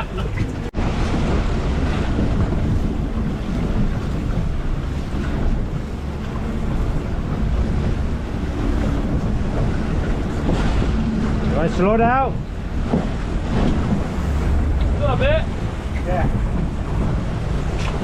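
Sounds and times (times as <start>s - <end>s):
boat engine rumbling: 0.0s - 18.0s
water rushing along hull: 0.0s - 18.0s
wind buffeting microphone: 0.0s - 18.0s.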